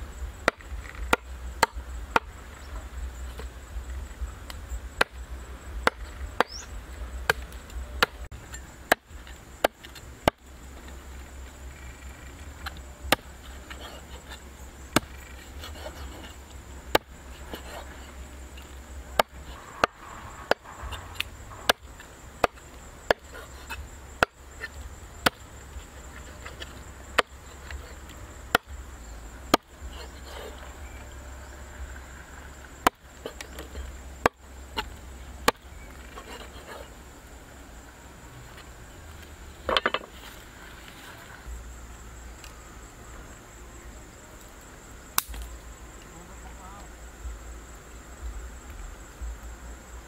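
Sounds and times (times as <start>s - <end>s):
insects buzzing: 0.0s - 50.0s.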